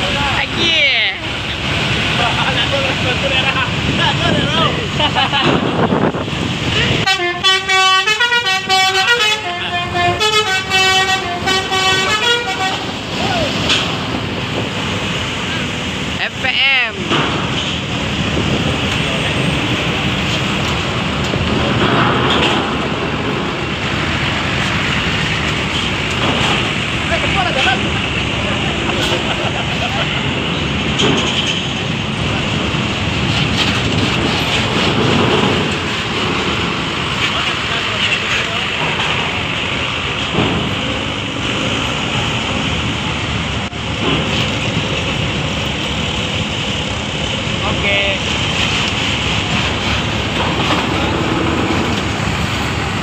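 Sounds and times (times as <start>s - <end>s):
buses driving past: 0.0s - 53.0s.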